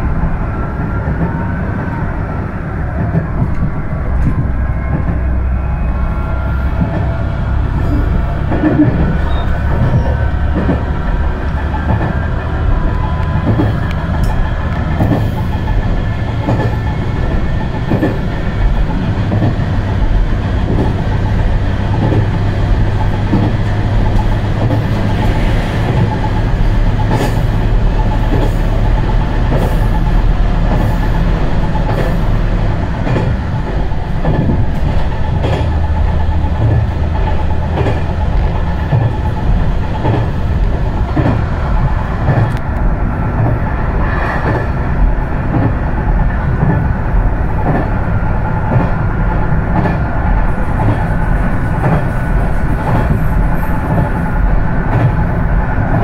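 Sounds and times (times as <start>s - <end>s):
railcar engine drone: 0.0s - 56.0s
wheels knocking on track: 6.1s - 56.0s.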